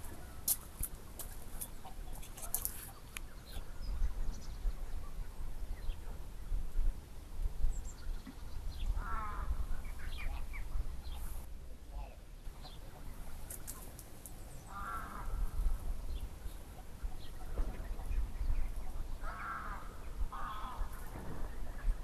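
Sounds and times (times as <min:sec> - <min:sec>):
bird calls: 0:00.0 - 0:06.2, 0:07.7 - 0:22.0.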